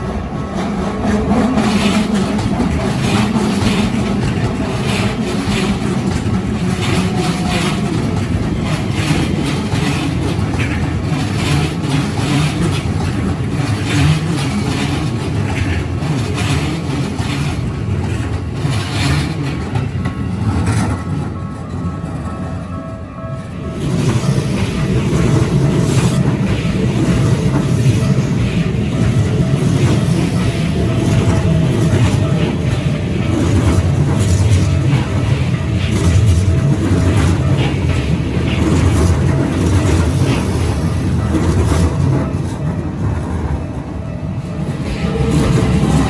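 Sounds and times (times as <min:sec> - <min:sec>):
wheels clattering over rails: 0:00.0 - 0:22.7, 0:23.4 - 0:46.0
electric train rumbling: 0:00.0 - 0:46.0.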